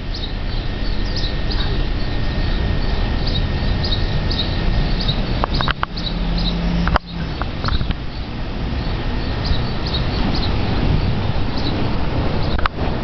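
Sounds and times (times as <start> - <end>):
high bird chirps: 0.0 - 12.6
steady low rumble: 0.0 - 13.0.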